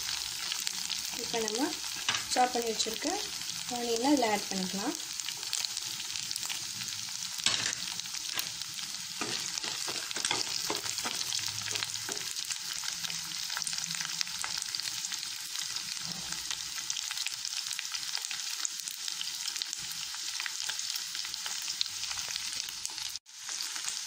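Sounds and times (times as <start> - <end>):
chicken and onions frying in oil: 0.0 - 24.0.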